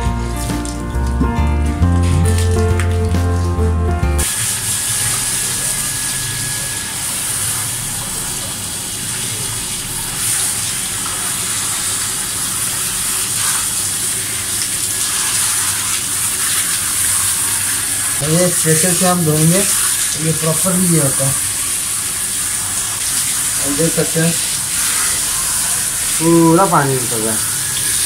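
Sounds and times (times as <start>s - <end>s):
water spraying from hose: 0.0s - 28.0s.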